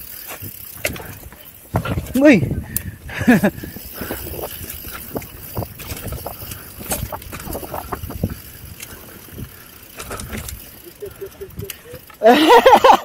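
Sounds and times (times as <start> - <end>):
bike tyre rumble on dirt: 0.0 - 12.2
bike clicks and rattles: 0.0 - 13.0.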